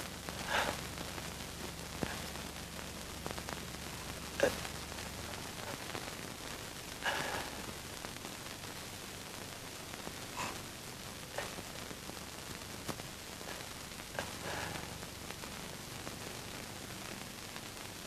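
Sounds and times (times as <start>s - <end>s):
film soundtrack hiss: 0.0s - 18.0s.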